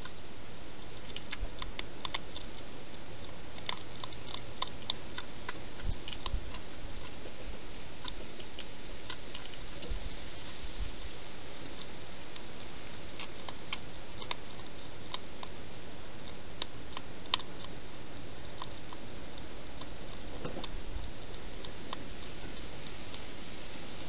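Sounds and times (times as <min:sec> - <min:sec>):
hedgehog crunching dry food: 0:00.0 - 0:24.0
steady background hiss: 0:00.0 - 0:24.0.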